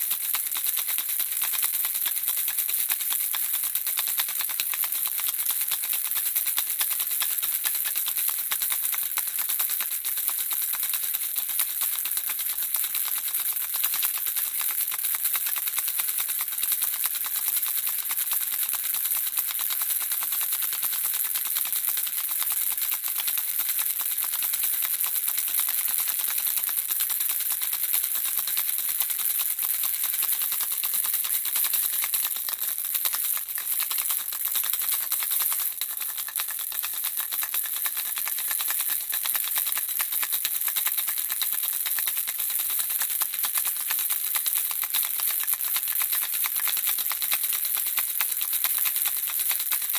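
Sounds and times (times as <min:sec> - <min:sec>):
baby rattle shaking: 0:00.0 - 0:49.9.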